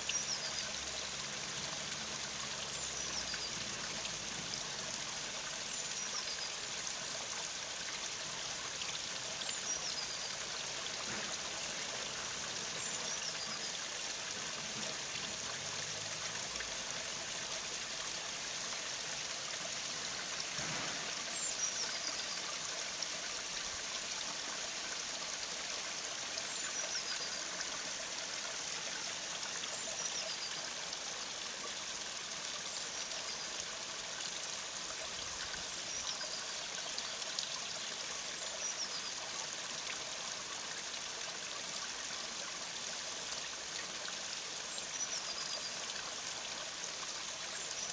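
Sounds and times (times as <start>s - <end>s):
stream trickling over stones: 0.0s - 47.9s.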